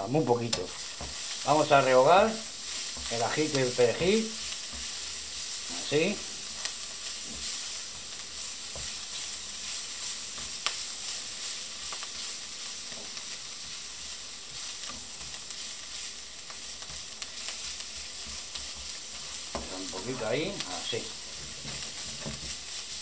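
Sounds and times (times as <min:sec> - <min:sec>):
garlic sizzling in oil: 0:00.0 - 0:23.0
spatula scraping pan: 0:00.3 - 0:23.0.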